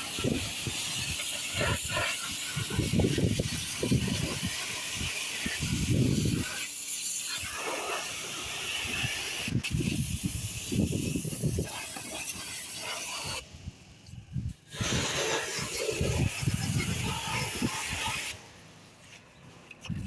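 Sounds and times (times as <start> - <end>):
pressurised water spray hissing: 0.0 - 13.6, 14.6 - 18.4.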